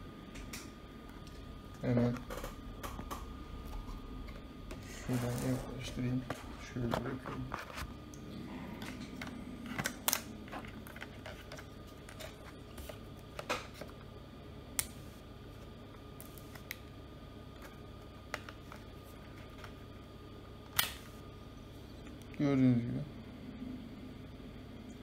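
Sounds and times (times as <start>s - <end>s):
faint background hum: 0.0s - 25.0s.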